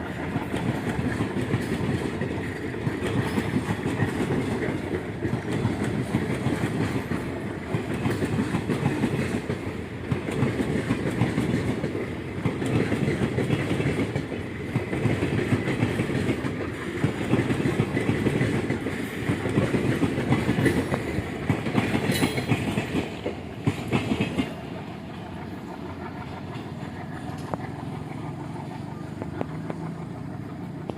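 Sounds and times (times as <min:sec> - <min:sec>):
train wheel squeal: 0:00.0 - 0:09.6, 0:10.3 - 0:30.9
train rumble: 0:00.0 - 0:30.9
train wheels clattering over rails: 0:00.0 - 0:30.9.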